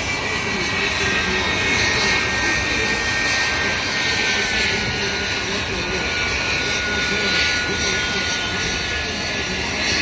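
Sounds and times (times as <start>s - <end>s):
distant jet engines whining: 0.0s - 10.0s.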